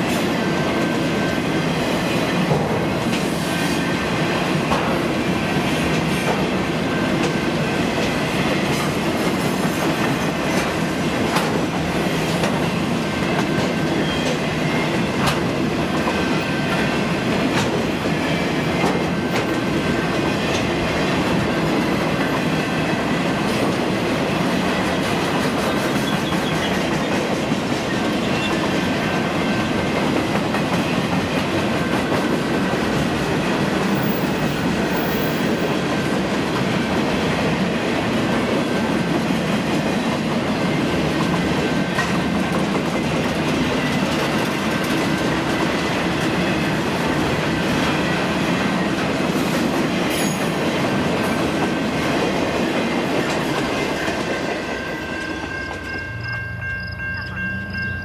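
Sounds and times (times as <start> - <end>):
train rolling past: 0.0 - 58.0.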